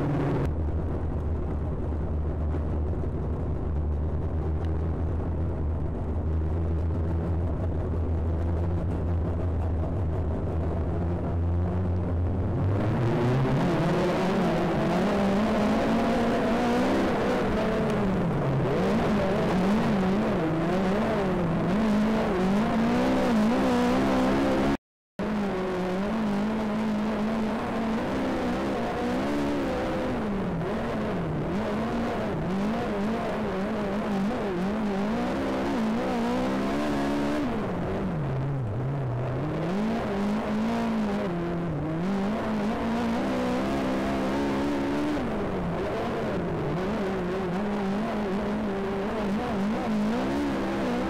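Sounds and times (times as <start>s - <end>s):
race car engine revving: 8.8s - 51.0s.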